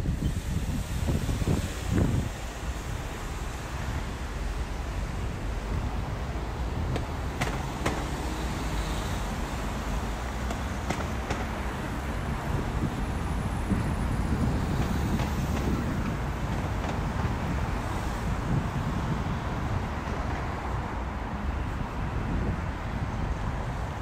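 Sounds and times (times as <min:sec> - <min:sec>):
passing cars rumble: 0:00.0 - 0:24.0.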